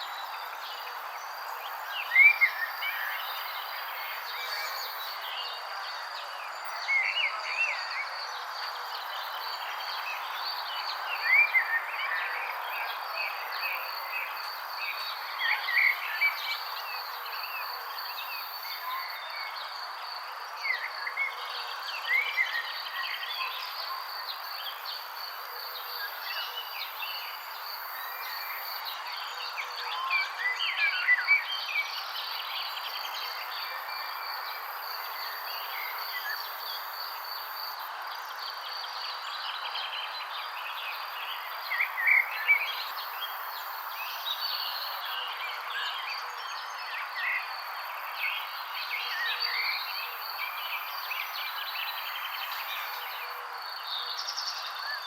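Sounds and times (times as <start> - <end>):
outdoor background hiss: 0.0 - 55.0
songbirds chirping: 0.0 - 55.0.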